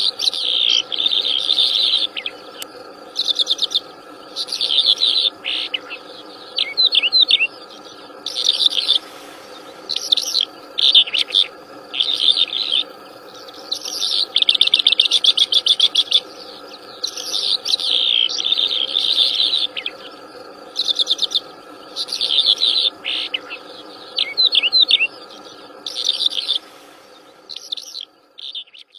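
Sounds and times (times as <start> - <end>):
faint steady drone: 0.0 - 28.9
songbirds chirping and trilling: 0.0 - 28.9.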